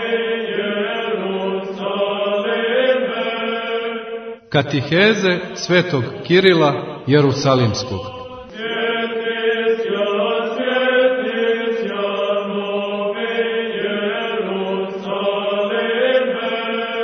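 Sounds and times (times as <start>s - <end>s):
church chant singing: 0.0s - 17.0s.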